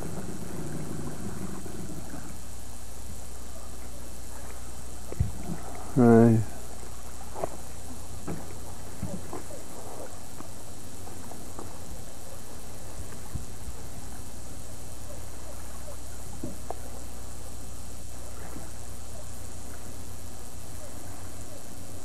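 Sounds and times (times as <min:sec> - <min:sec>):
camcorder hum and hiss: 0:00.0 - 0:22.0.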